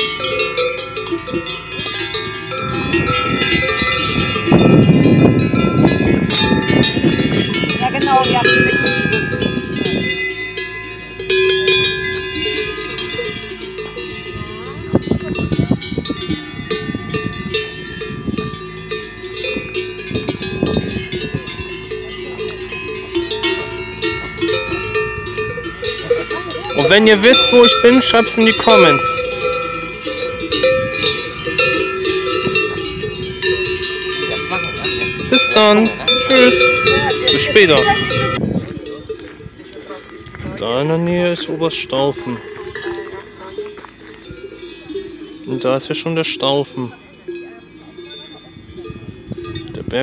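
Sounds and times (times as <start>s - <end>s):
cowbells clanging: 0.0s - 50.0s.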